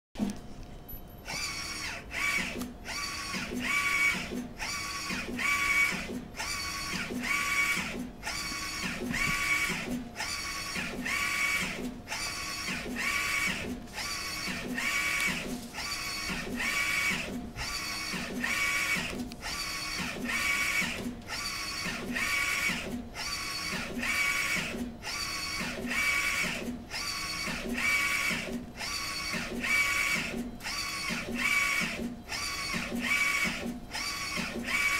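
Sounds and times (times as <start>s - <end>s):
printer carriage motor whine: 0.2s - 34.9s.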